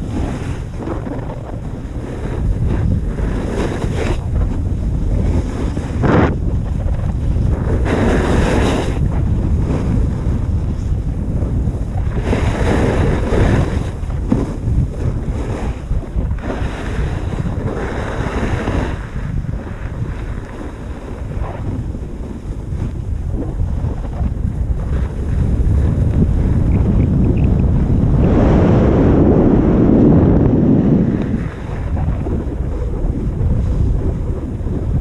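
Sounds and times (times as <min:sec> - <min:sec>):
skis scraping over packed snow: 0:00.0 - 0:35.0
wind buffeting microphone: 0:00.0 - 0:35.0.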